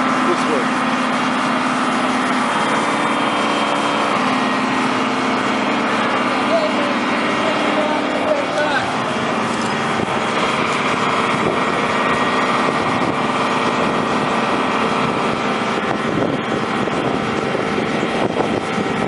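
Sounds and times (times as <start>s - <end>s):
engines droning: 0.0s - 19.0s.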